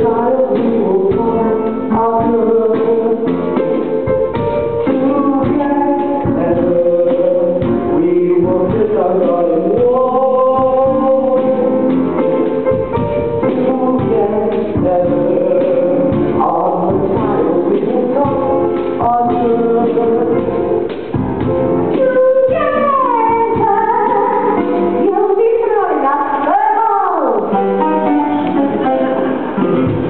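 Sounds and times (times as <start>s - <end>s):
person singing: 0.0s - 20.9s, 21.7s - 30.0s
instrumental backing music: 0.0s - 30.0s.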